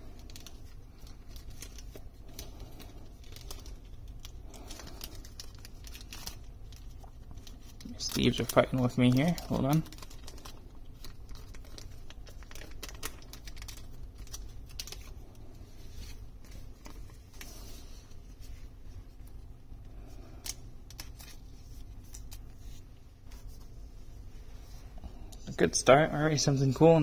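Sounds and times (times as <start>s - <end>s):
soft plastic rustles: 0.0s - 27.0s.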